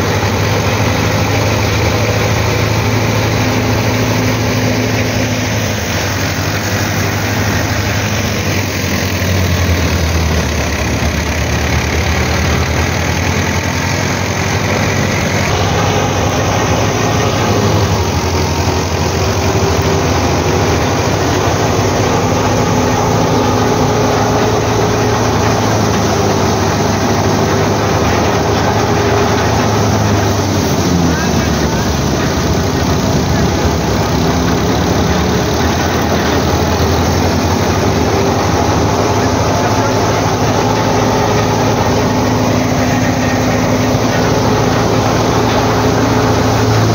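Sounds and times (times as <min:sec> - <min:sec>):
diesel tractor engine running: 0:00.0 - 0:46.9
thresher rushing whir: 0:00.0 - 0:46.9.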